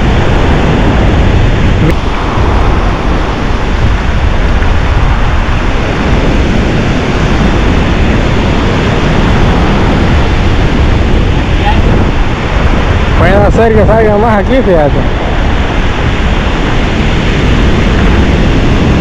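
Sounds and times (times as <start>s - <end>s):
ocean surf: 0.0s - 19.0s
wind rumble on microphone: 0.0s - 19.0s.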